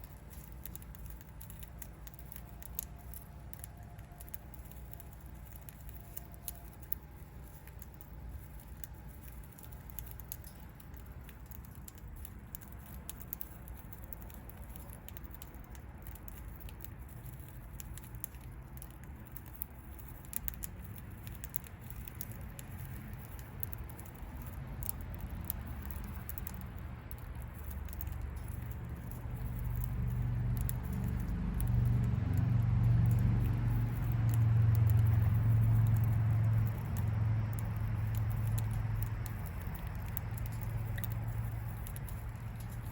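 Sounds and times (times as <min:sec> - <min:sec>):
beak cracking seeds: 0:00.0 - 0:42.9.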